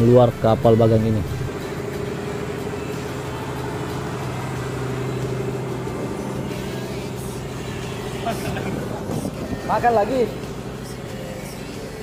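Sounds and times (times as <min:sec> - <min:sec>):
boat diesel engine droning: 0:00.0 - 0:12.0.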